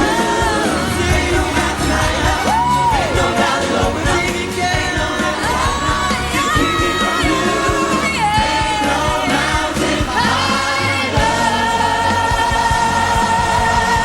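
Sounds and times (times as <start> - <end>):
song with singing over a beat: 0.0 - 14.0.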